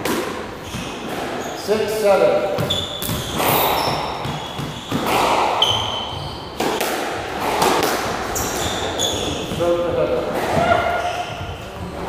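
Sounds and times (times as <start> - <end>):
squash ball knocks: 0.0 - 1.4, 2.3 - 8.6, 9.3 - 11.9
shoes squeaking on wooden floor: 0.5 - 12.0.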